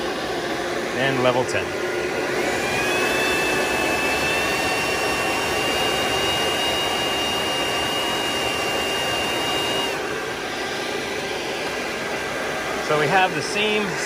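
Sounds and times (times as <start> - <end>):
duct fan rushing air: 0.0 - 14.0
fan high whine: 0.0 - 14.0.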